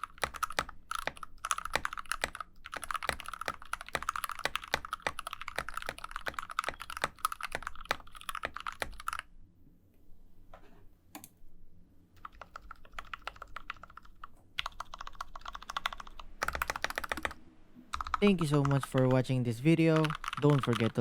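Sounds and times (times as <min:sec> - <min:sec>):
mechanical keyboard typing: 0:00.0 - 0:09.3, 0:12.2 - 0:21.0.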